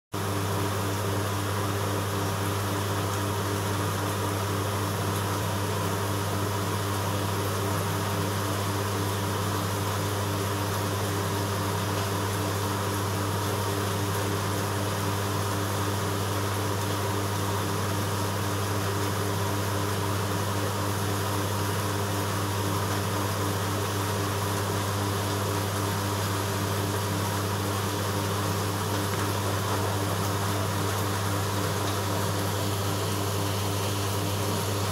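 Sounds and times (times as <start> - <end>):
aquarium pumps humming: 0.2 - 34.9.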